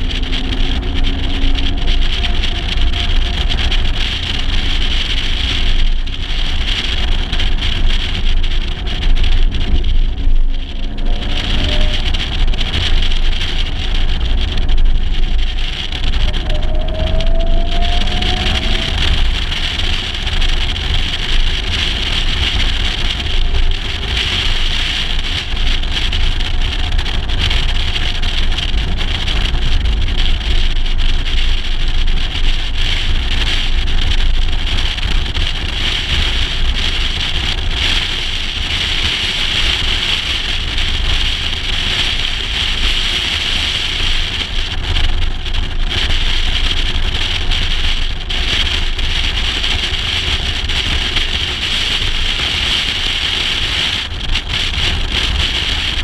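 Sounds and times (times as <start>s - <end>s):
car road and engine noise: 0.0s - 56.0s
wind buffeting camera: 0.0s - 56.0s.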